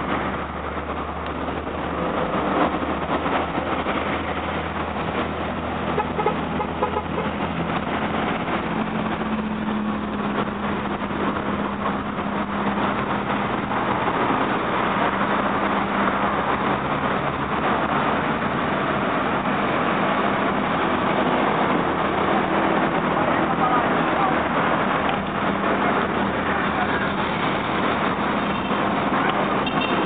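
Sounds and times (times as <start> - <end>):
cars driving slowly past: 0.0 - 30.0.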